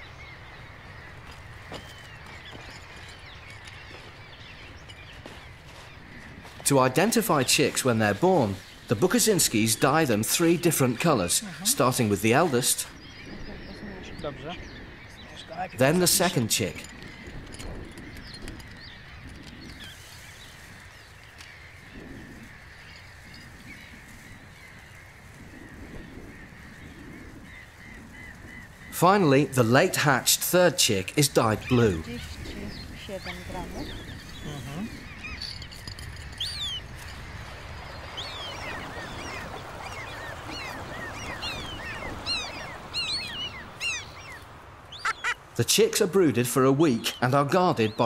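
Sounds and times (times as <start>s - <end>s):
gulls calling: 0.0s - 48.0s.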